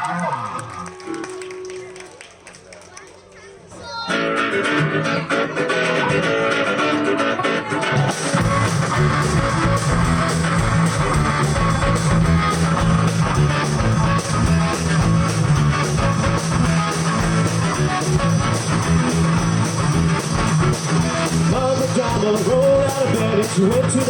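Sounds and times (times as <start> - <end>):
drums: 3.7 - 24.0
bass guitar: 3.8 - 24.0
strummed guitar: 4.1 - 24.0.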